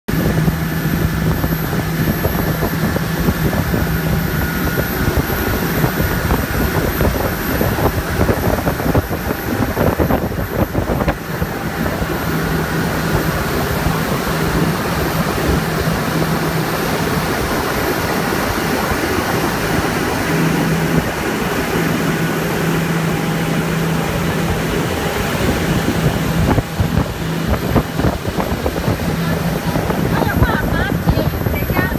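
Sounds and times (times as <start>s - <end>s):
boat engine humming: 0.1s - 31.9s
churning wake water: 0.1s - 31.9s
wind rushing: 0.1s - 31.9s.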